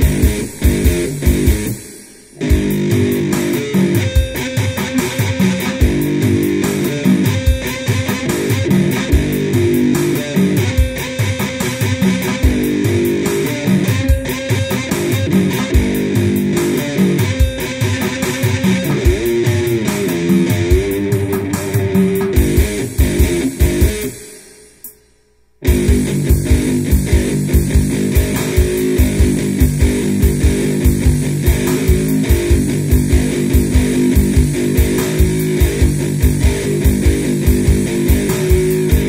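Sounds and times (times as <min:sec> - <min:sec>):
electric one-string guitar riffs: 0:00.0 - 0:24.5, 0:25.6 - 0:39.0.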